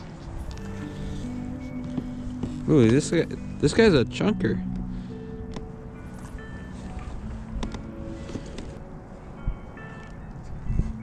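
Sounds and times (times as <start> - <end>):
soft held chords: 0.0 - 11.0.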